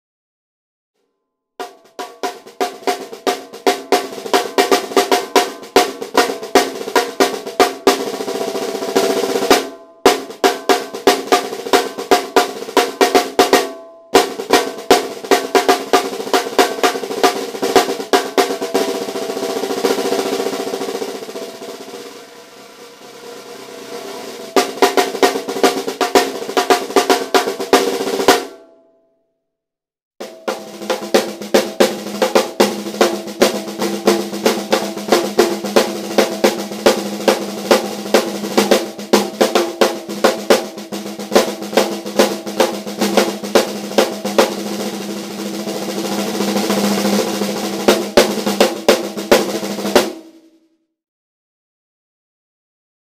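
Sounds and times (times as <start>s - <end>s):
snare drum strokes and rolls: 1.6s - 28.6s, 30.2s - 50.5s.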